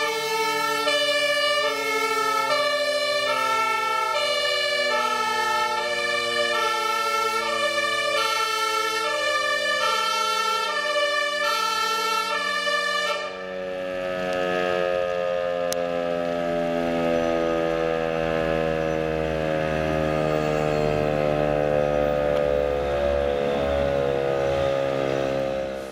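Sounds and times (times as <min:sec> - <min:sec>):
alarm siren wailing: 0:00.0 - 0:25.9
fire truck two-tone horn: 0:00.0 - 0:25.9.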